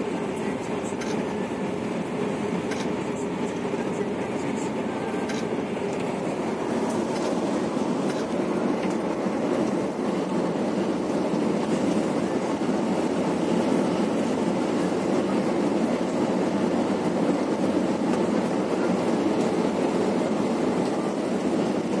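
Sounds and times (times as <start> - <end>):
coach tyres and engine rumble: 0.0 - 22.0.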